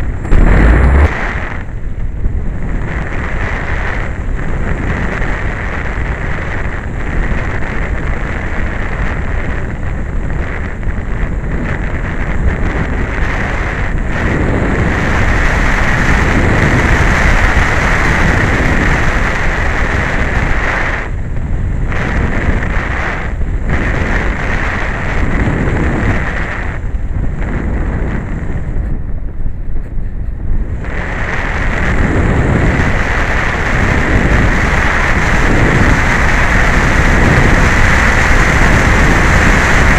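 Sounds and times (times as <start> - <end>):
steady high hum: 0.0 - 39.9
wind rushing over microphone: 0.0 - 39.9.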